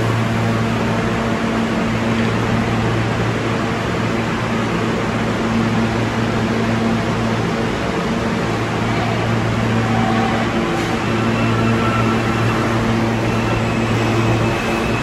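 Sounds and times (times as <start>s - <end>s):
subway train humming: 0.0s - 15.0s.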